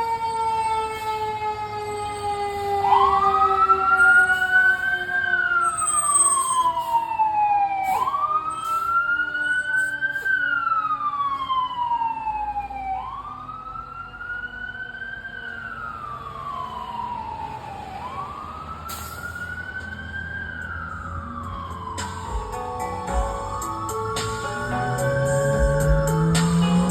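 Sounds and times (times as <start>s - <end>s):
fire engine siren wailing: 0.0s - 26.9s.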